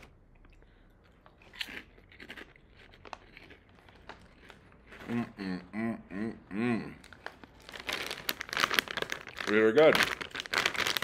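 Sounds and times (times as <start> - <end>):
crackers crunching: 0.0 - 5.5, 6.9 - 11.0.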